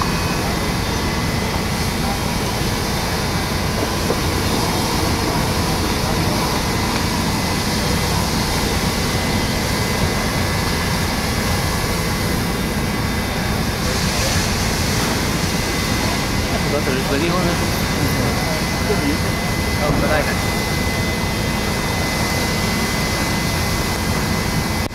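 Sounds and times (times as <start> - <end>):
fire engine water pump running: 0.0 - 24.9.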